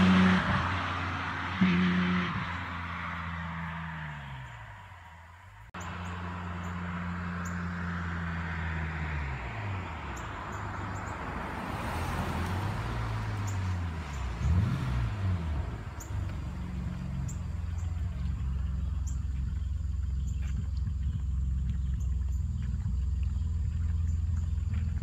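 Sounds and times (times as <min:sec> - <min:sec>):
car exhaust revving: 0:00.0 - 0:25.0.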